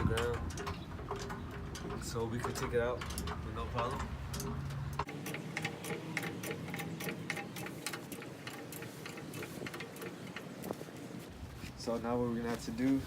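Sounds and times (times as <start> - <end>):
car jack clicking: 0.0 - 11.2.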